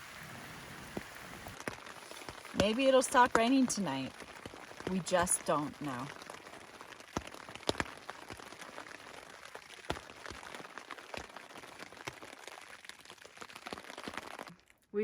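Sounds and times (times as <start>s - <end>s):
steady rain falling: 0.0s - 14.8s
heavy raindrop taps: 0.8s - 14.6s.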